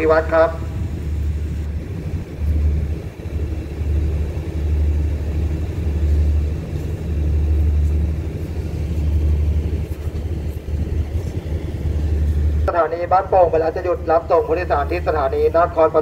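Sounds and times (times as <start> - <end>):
diesel locomotive rumbling: 0.0 - 16.0.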